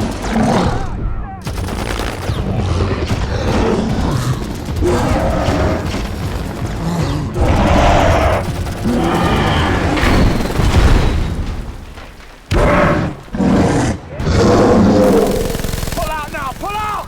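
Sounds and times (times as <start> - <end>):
heavy booms and impacts: 0.0 - 15.6.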